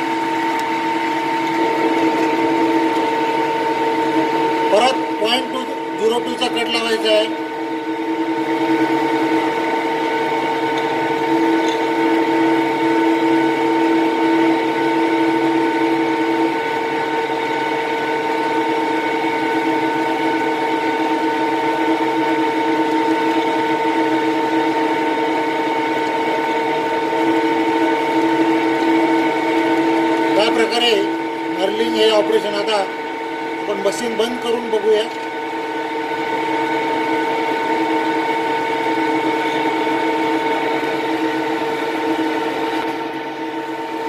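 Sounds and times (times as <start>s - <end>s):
metal lathe humming and whining: 0.0s - 44.0s.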